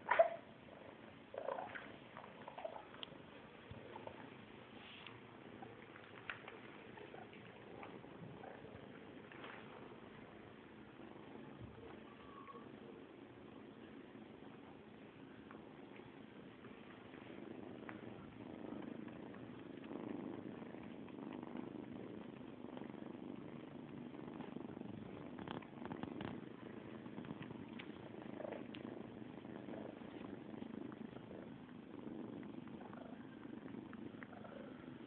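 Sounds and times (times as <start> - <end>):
cats purring: 0.0 - 35.0.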